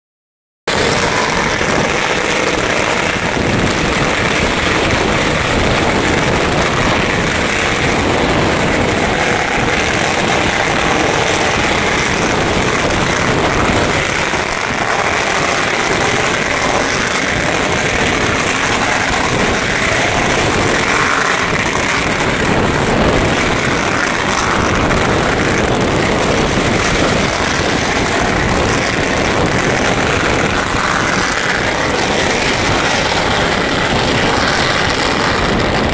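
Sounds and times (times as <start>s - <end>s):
firecrackers crackling: 0.7s - 35.9s.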